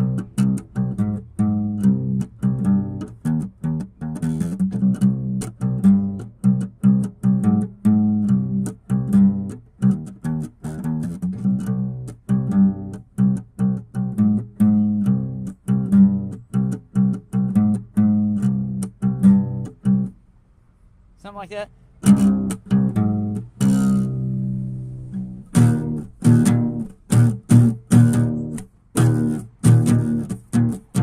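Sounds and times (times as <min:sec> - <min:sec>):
plucked instrumental music: 0:00.0 - 0:20.2, 0:22.0 - 0:31.0.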